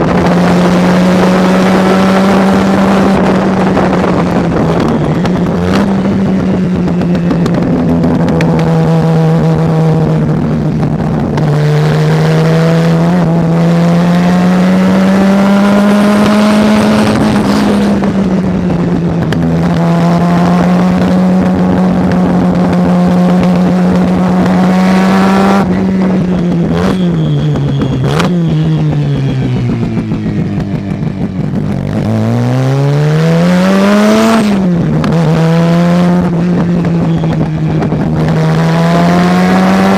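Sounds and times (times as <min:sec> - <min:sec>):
racing engine at high revs: 0:00.0 - 0:39.9.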